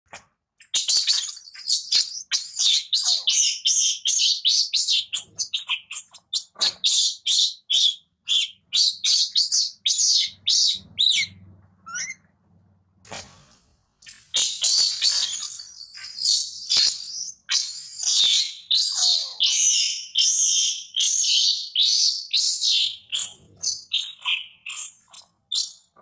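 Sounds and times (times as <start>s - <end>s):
baby monkey screaming: 0.7s - 11.3s, 14.1s - 26.0s.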